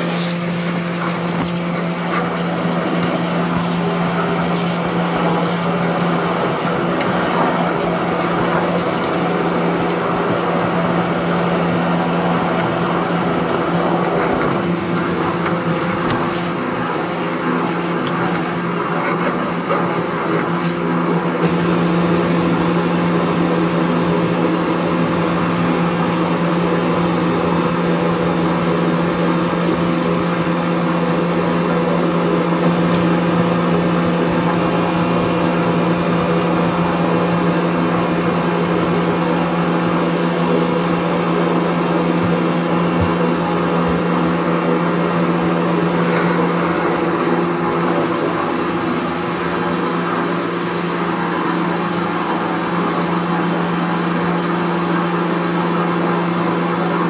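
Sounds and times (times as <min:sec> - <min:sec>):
water jet hissing: 0:00.0 - 0:56.1
pressure washer motor hum: 0:00.0 - 0:57.0.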